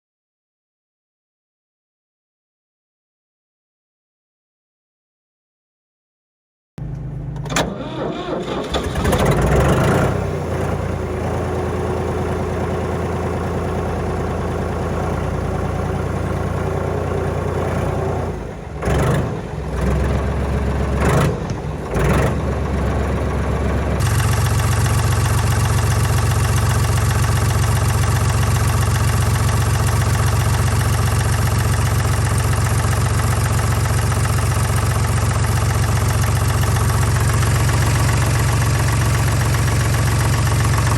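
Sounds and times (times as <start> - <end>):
tractor diesel engine running: 6.8 - 40.9.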